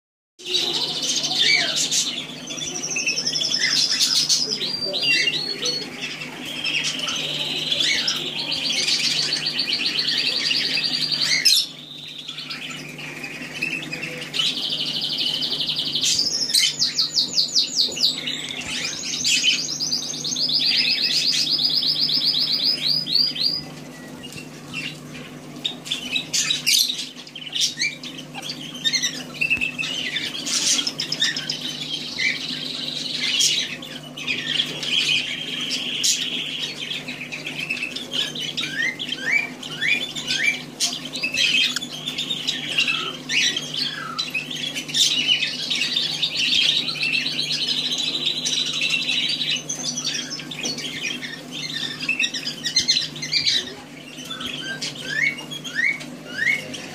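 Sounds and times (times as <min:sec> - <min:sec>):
budgerigars chattering: 0:00.5 - 0:56.9.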